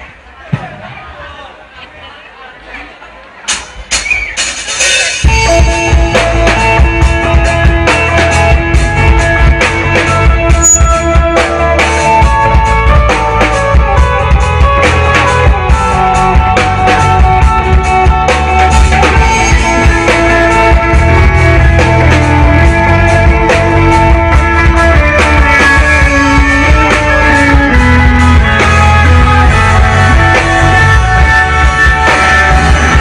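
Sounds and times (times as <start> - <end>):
live rock band playing: 3.8 - 33.0.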